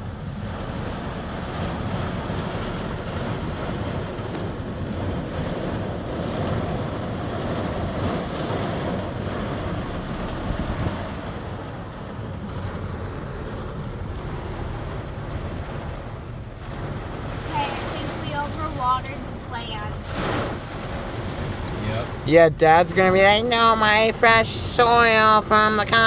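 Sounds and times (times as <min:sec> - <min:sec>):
heavy rain pouring: 0:00.0 - 0:26.0
wind buffeting microphone: 0:00.0 - 0:26.0.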